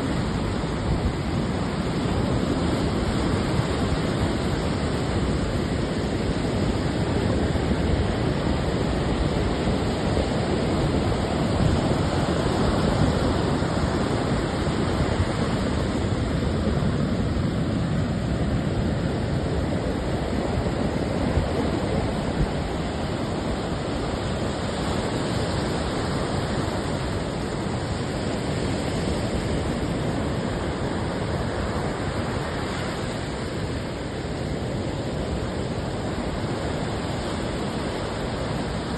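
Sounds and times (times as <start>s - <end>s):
ocean surf washing on shore: 0.0s - 38.9s.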